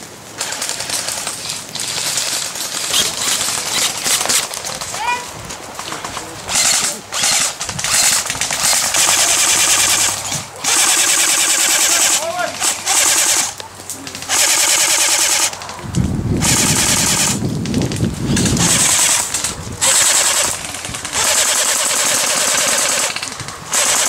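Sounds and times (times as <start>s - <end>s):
airsoft guns firing bursts: 0.4s - 5.2s, 6.0s - 24.0s.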